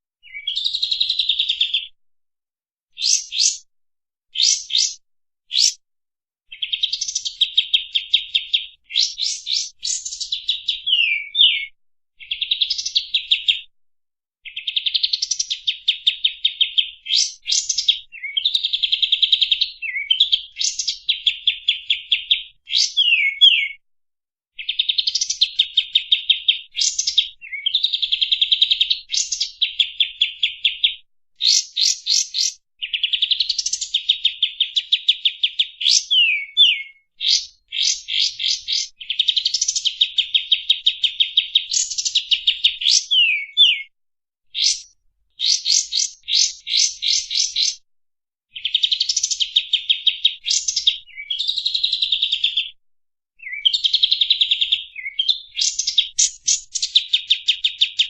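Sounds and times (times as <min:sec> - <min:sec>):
songbird singing: 0:00.2 - 0:02.0, 0:03.0 - 0:03.7, 0:04.4 - 0:05.8, 0:06.5 - 0:13.6, 0:14.4 - 0:23.8, 0:24.6 - 0:43.9, 0:44.6 - 0:47.8, 0:53.4 - 0:58.0.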